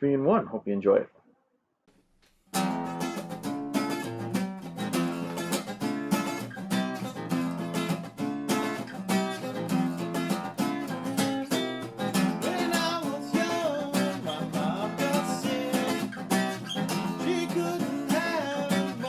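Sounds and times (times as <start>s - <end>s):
solo guitar riff: 2.6s - 19.0s.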